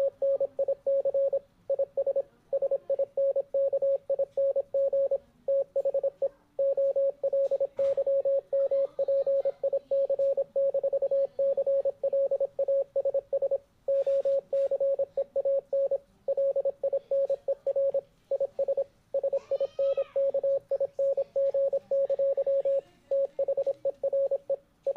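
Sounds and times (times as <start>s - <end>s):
morse code tone: 0.0s - 24.9s.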